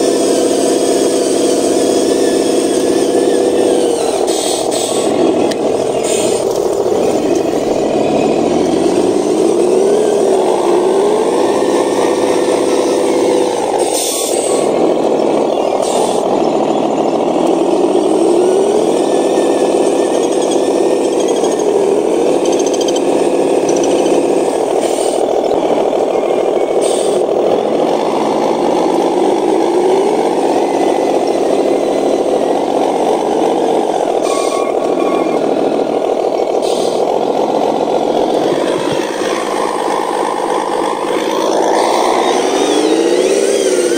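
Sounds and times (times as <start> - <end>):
rc truck motor whining: 0.0 - 43.9.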